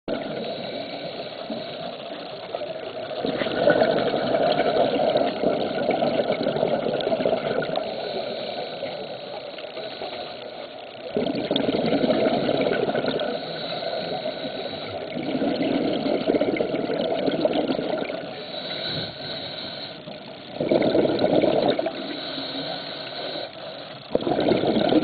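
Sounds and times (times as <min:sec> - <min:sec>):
underwater breath bubbles: 0:00.1 - 0:25.0.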